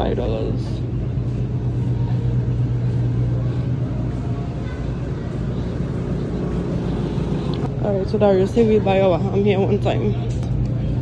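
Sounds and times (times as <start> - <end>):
low hum: 0.0 - 11.0
faint murmur: 0.8 - 11.0.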